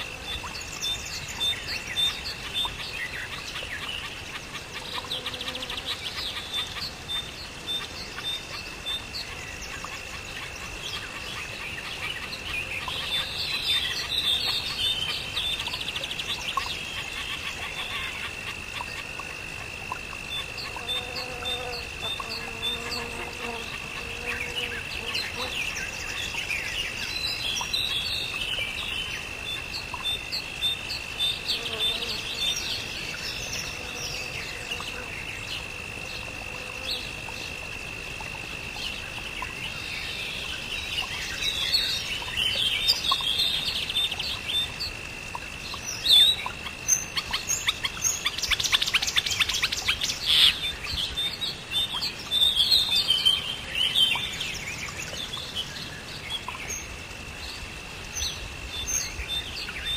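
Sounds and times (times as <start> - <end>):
birds chirping and calling: 0.0 - 19.3, 19.9 - 37.6, 45.7 - 56.9.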